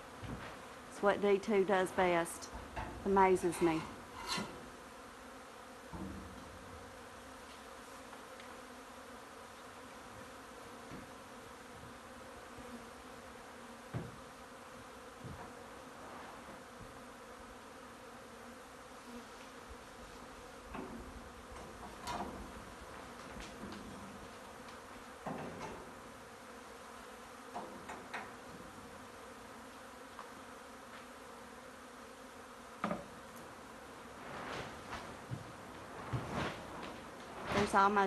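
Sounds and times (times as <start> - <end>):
bee swarm buzzing: 0.0 - 38.0.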